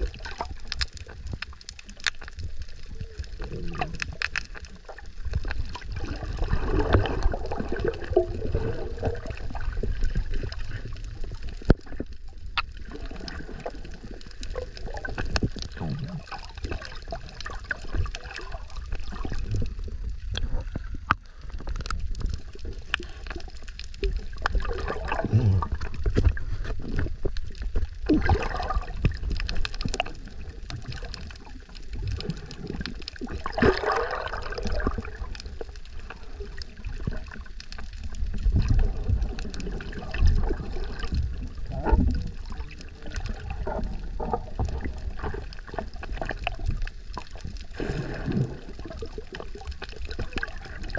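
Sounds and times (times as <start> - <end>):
small underwater clicks: 0.0 - 50.9
underwater rumble of moving water: 0.0 - 50.9
water gurgling: 0.0 - 50.9.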